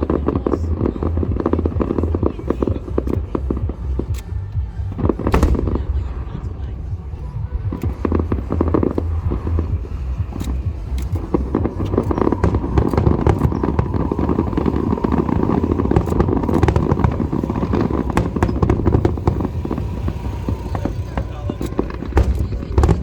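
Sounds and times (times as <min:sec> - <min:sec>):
fireworks bangs and crackling: 0:00.0 - 0:23.0
low rumble: 0:00.0 - 0:23.0.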